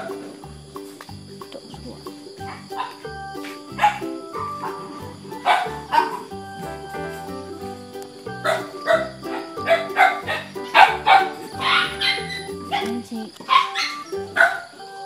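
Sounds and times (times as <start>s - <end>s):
puppies barking and yipping: 0.0s - 0.4s, 2.4s - 15.0s
background music: 0.0s - 15.0s.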